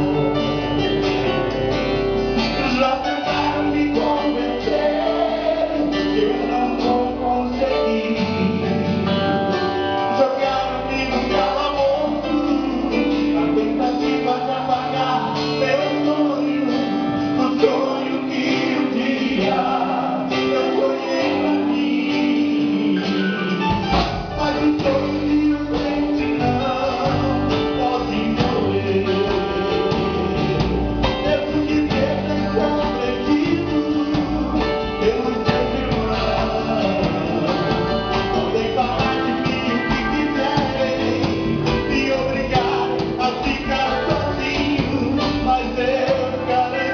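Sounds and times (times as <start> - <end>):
live gospel band playing: 0.0 - 46.9
person singing: 2.3 - 46.9.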